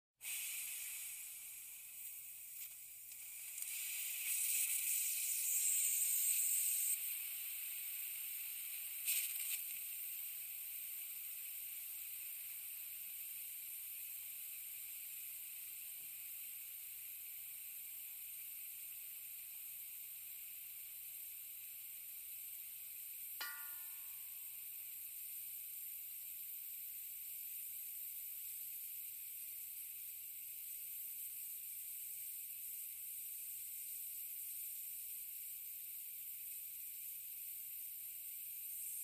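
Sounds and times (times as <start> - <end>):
air hissing from a tank: 0.2 - 39.0.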